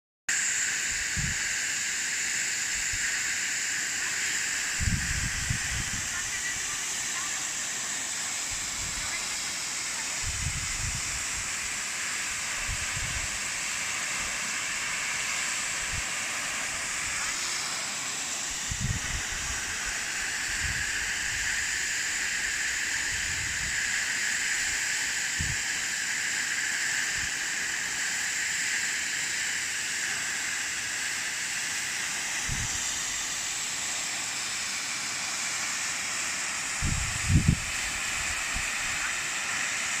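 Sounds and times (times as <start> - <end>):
waterfall rushing: 3.8 - 26.5, 27.7 - 40.0.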